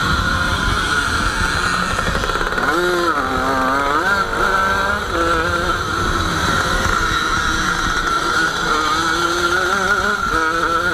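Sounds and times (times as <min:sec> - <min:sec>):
two-stroke motorcycle engine: 0:00.0 - 0:10.9.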